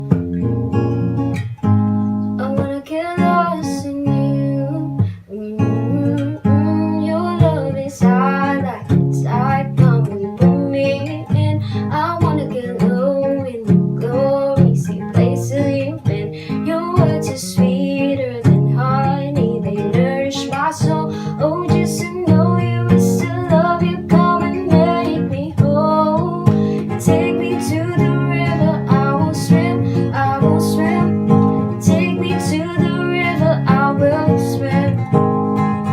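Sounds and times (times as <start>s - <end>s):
acoustic guitar strumming: 0.0s - 35.9s
woman singing: 2.4s - 35.9s.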